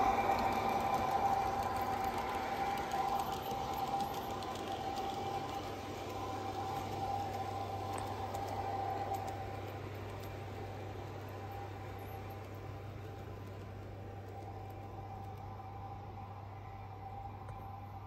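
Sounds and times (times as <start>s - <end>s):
train wheels rumbling: 0.0s - 17.8s
model train motor whine: 0.0s - 18.0s.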